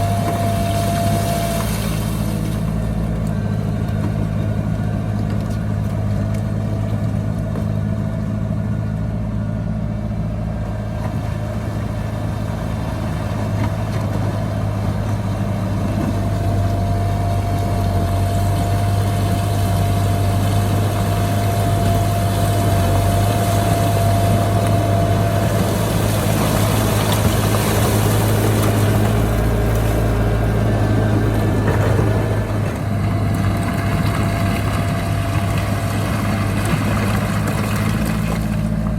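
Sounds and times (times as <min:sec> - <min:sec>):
bulldozer diesel engine droning: 0:00.0 - 0:38.9.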